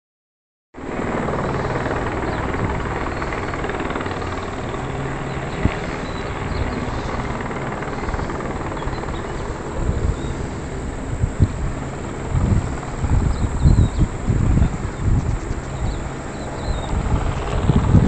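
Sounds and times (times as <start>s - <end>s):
engine drone: 0.8s - 18.0s
rushing noise: 0.8s - 18.0s.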